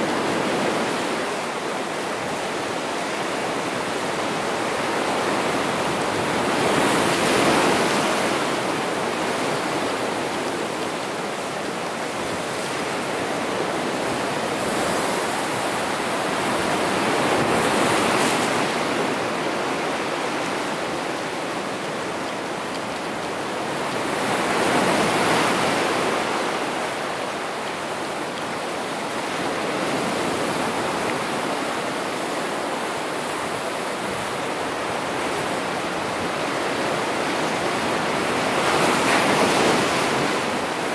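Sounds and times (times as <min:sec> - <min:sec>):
surf washing over rocks: 0:00.0 - 0:40.9.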